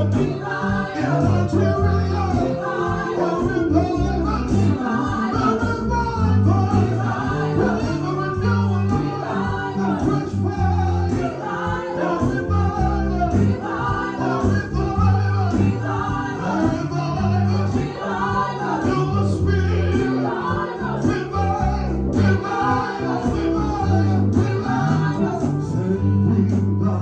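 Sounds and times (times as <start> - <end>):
band accompaniment with bass: 0.0 - 27.0
choir singing: 0.0 - 27.0.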